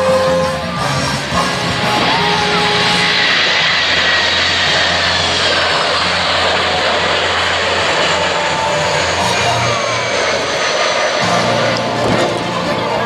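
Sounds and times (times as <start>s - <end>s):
jet engines passing overhead: 0.0s - 13.0s.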